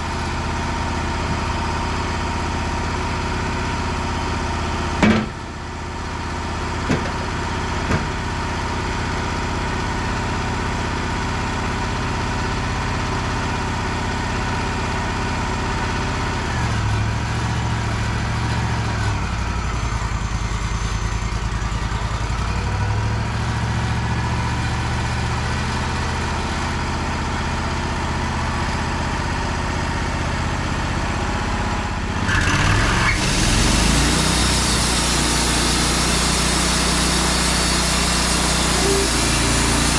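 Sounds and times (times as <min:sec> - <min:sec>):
sawmill engine idling and revving: 0:00.0 - 0:39.9.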